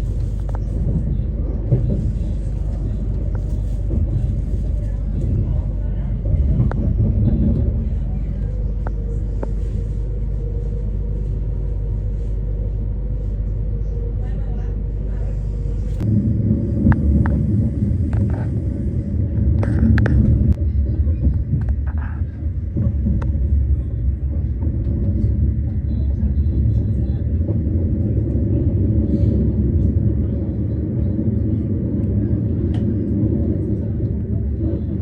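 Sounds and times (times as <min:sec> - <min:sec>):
train rumbling inside carriage: 0:00.0 - 0:35.0.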